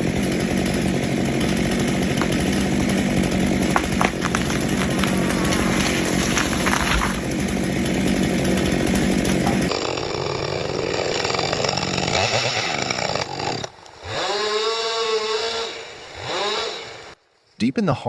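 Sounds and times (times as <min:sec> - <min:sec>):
chainsaw cutting wood: 0:00.0 - 0:17.2.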